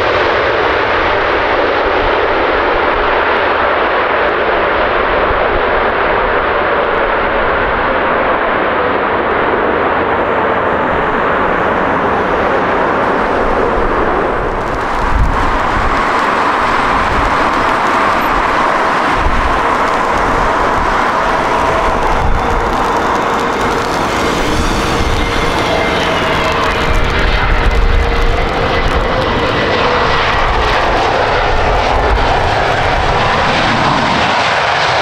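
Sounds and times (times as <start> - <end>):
jet engine roar: 0.0 - 35.0
jet roar with steady whine: 0.0 - 35.0.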